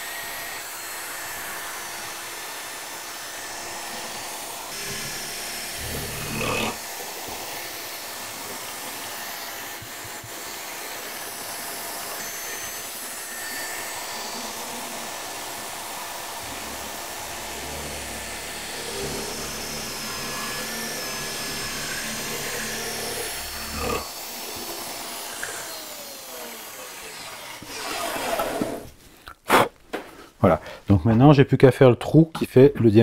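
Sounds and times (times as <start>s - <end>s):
electric drill boring into wood: 0.0s - 28.8s
shop vacuum running: 0.0s - 28.9s.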